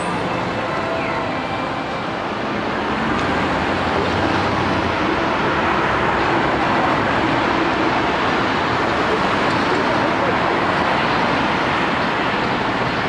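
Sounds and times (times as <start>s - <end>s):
cars driving past: 0.0s - 12.9s
streetcar running into stop: 0.0s - 13.0s.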